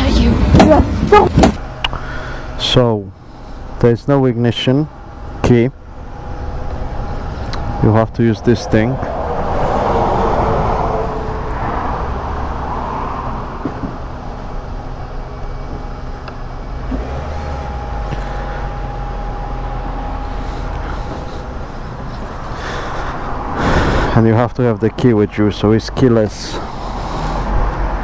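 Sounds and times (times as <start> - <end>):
engine rumble: 0.0 - 28.0
road traffic hiss: 1.6 - 28.0.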